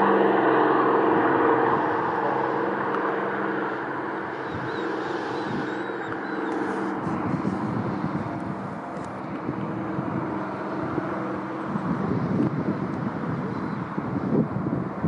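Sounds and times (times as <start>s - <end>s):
aircraft engines droning: 0.0s - 15.0s
wind buffeting microphone: 0.0s - 15.0s.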